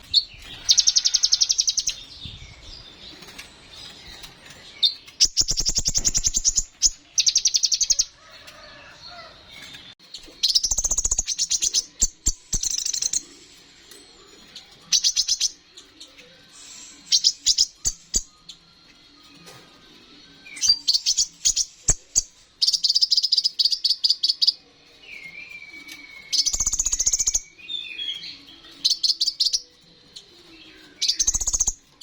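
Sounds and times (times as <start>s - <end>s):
bird singing high-pitched trills: 0.0s - 8.1s, 10.4s - 18.8s, 20.3s - 32.0s.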